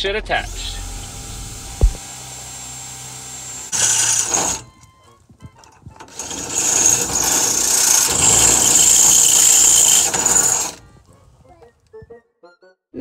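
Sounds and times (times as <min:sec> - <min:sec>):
power tool motor whining: 0:00.3 - 0:11.6.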